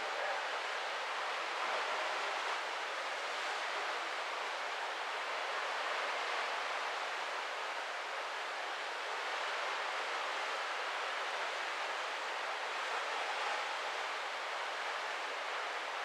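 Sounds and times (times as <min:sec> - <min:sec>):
rushing sea water and wind: 0:00.0 - 0:16.0.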